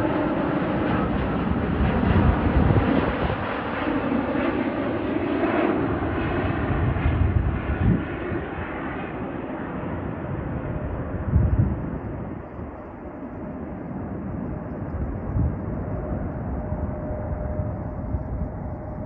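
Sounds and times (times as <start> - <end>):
jet engine rush: 0.0 - 19.0.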